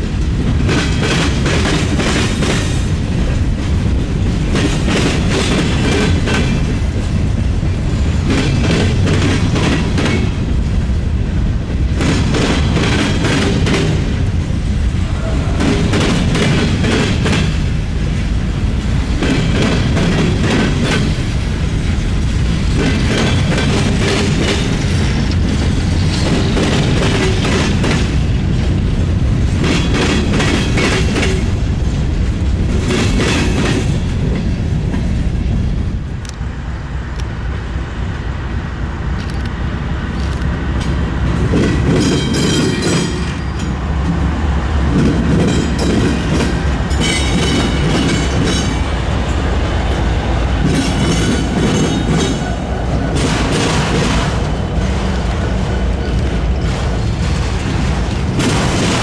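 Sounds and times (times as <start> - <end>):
train wheels clattering: 0.0 - 37.4, 39.2 - 59.0
freight train rumbling: 0.0 - 59.0.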